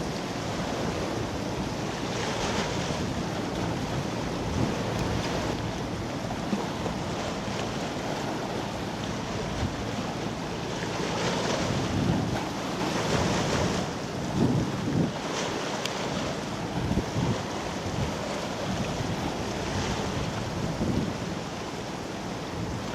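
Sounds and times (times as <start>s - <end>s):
rushing water: 0.0s - 22.9s
wind buffeting microphone: 0.0s - 22.9s.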